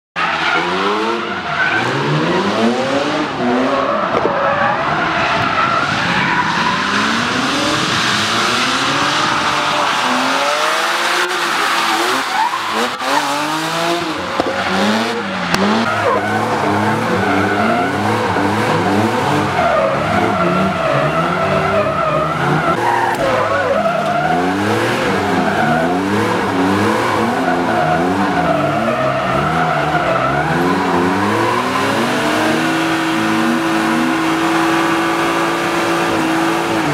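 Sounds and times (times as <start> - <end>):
car engines revving: 0.1 - 36.9.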